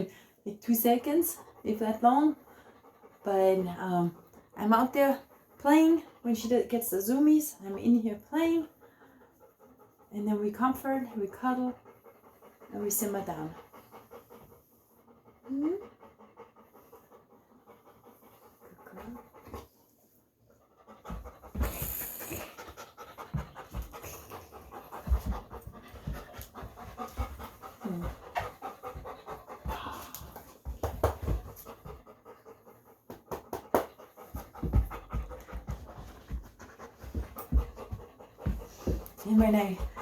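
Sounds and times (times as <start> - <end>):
dog panting: 0.0 - 40.0.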